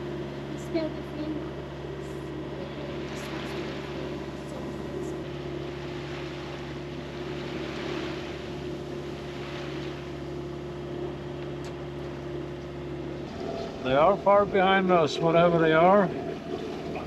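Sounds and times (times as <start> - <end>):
boat engine running: 0.0 - 17.0
water rushing past hull: 0.0 - 17.0.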